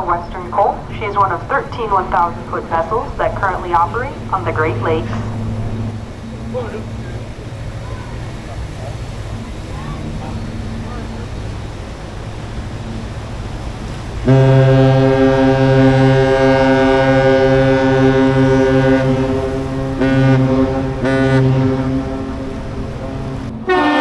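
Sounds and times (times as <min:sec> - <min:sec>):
deep ship air horn blasts: 0:00.0 - 0:24.0.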